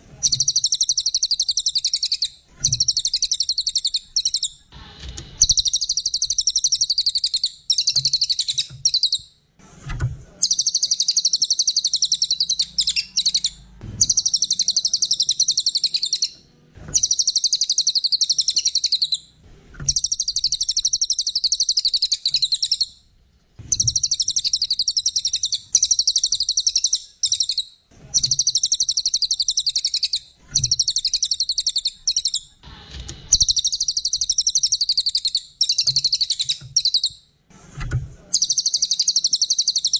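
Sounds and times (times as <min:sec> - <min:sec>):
bird chattering twitter: 0:00.2 - 0:04.6, 0:05.4 - 0:09.2, 0:10.4 - 0:16.4, 0:17.0 - 0:19.3, 0:19.9 - 0:22.9, 0:23.7 - 0:32.6, 0:33.3 - 0:37.2, 0:38.4 - 0:39.9.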